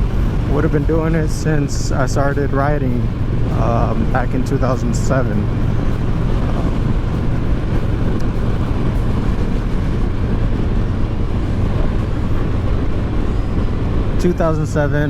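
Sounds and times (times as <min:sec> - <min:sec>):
motorcycle engine cruising: 0:00.0 - 0:15.0
road noise: 0:00.0 - 0:15.0
wind noise: 0:00.0 - 0:15.0.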